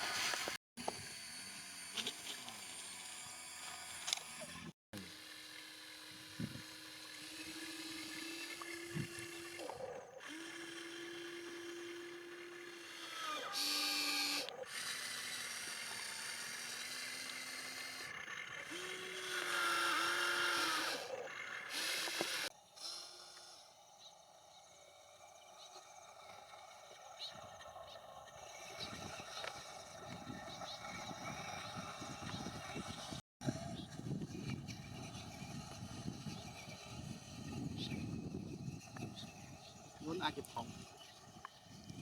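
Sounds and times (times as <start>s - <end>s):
small electric motors whining: 0.0s - 42.0s.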